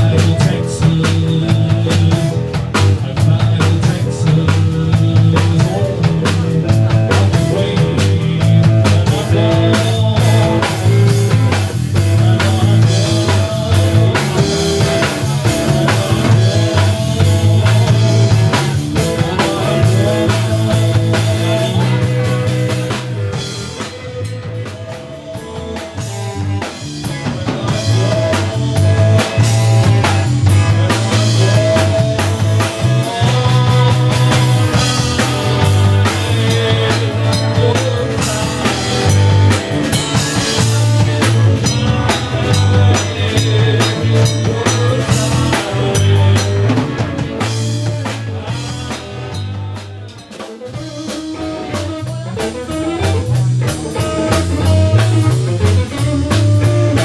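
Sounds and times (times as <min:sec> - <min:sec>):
bass line: 0:00.0 - 0:57.0
drum kit: 0:00.0 - 0:57.0
electric guitar lines: 0:00.0 - 0:57.0.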